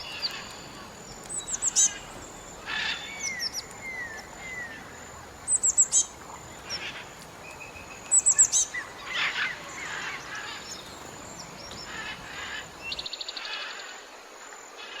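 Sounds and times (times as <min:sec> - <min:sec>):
high bird chirps: 0:00.0 - 0:13.1
soft bird calls: 0:00.0 - 0:13.1
steady background hiss: 0:00.0 - 0:15.0.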